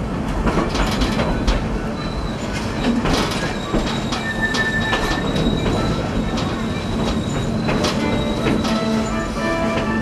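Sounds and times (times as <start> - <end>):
rail clicks: 0.0 - 10.0
train rumbling over rails: 0.0 - 10.0
train wheels squealing: 1.2 - 10.0.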